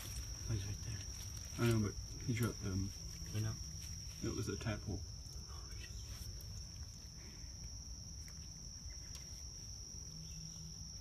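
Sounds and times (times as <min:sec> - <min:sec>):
insect chorus high-pitched tone: 0:00.0 - 0:11.0.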